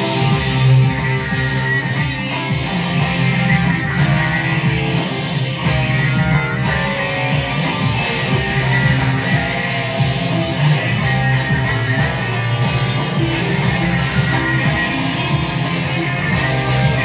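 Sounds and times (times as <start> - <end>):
electric guitar: 0.0 - 17.0.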